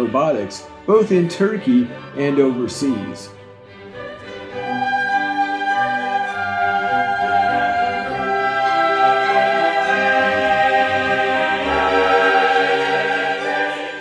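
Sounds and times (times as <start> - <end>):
orchestral music with choir: 0.0 - 14.0.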